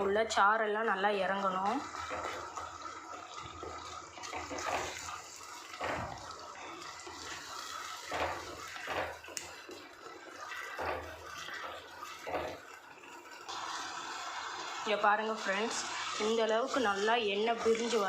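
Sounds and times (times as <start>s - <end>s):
masala sizzling in oil: 0.0s - 18.0s.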